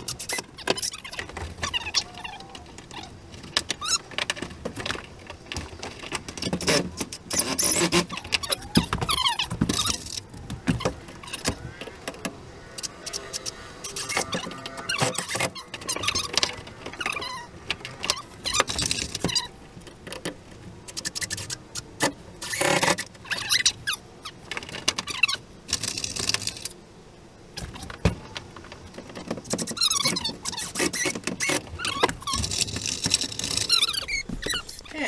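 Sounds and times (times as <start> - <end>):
short squeaks: 0.0 - 4.5, 5.1 - 19.6, 20.8 - 26.8, 29.0 - 35.0
wood pieces and tools clattering: 0.0 - 23.7, 27.6 - 35.0.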